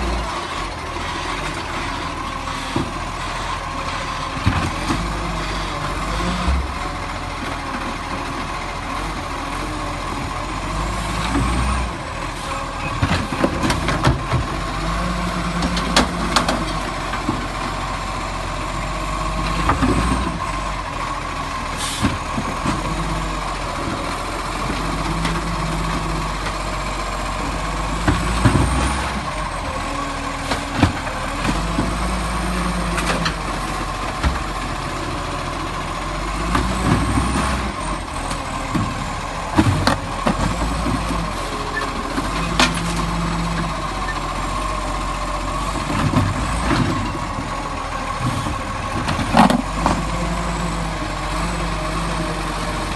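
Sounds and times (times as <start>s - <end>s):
garbage truck engine running: 0.0s - 52.9s.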